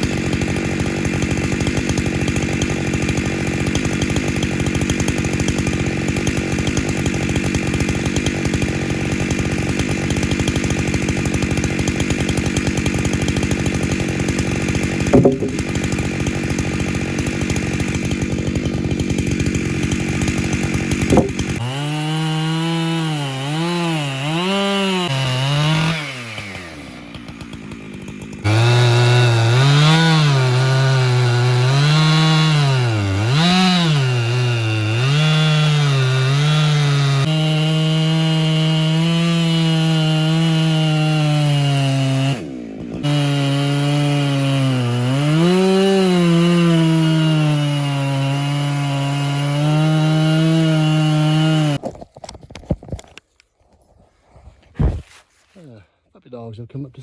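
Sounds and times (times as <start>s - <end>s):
sharp wood cracks: 0.0s - 48.8s
chainsaw cutting log: 0.0s - 53.5s, 54.6s - 55.4s.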